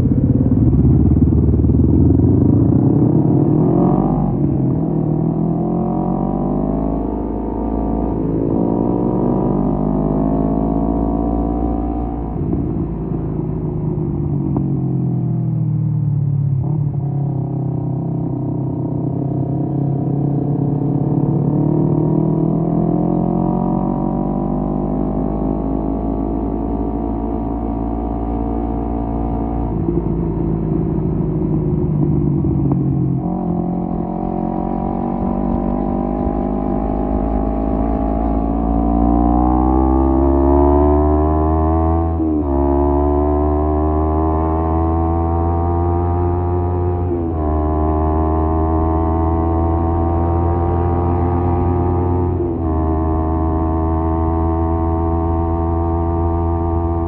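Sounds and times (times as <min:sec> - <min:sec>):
motorcycle exhaust while riding: 0:00.0 - 0:57.0.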